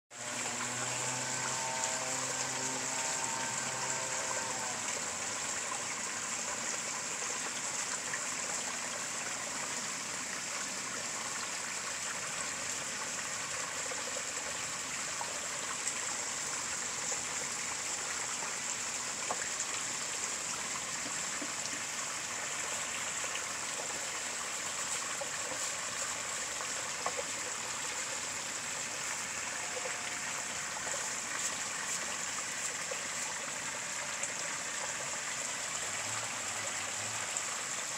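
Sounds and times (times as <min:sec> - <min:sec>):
water trickling into pond: 0:00.1 - 0:37.9.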